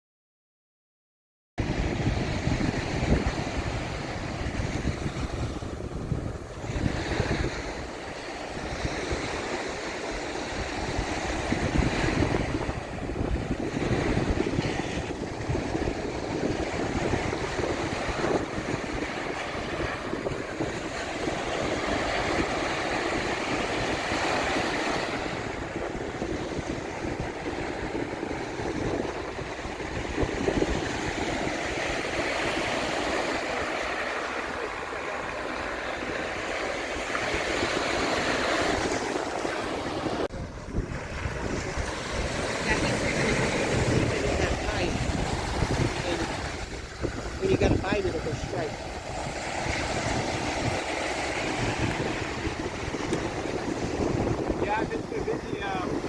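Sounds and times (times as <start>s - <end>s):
waves breaking on a beach: 1.6s - 56.0s
wind buffeting the microphone: 1.6s - 56.0s.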